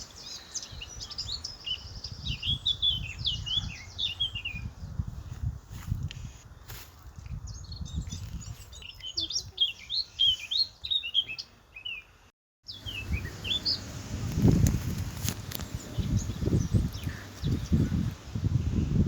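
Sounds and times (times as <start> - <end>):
small birds chirping: 0.0 - 18.5.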